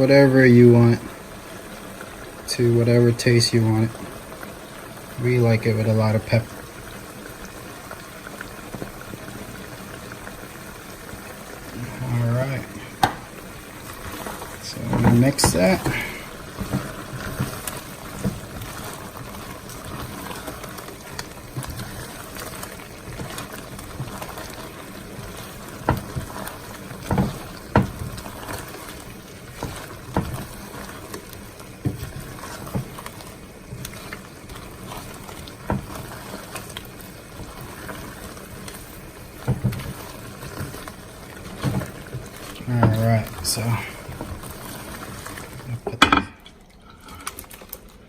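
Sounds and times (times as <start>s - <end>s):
shrimp simmering in sauce: 0.0s - 48.0s.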